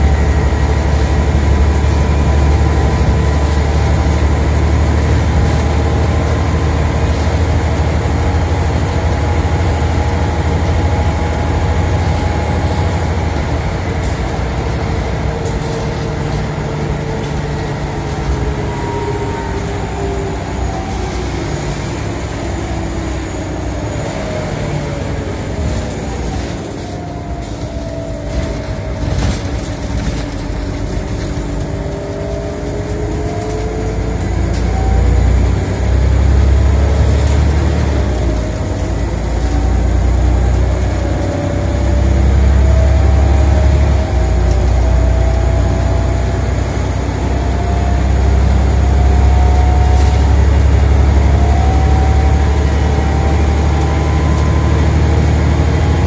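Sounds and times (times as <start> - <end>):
bus engine rumbling with whine: 0.0 - 56.0.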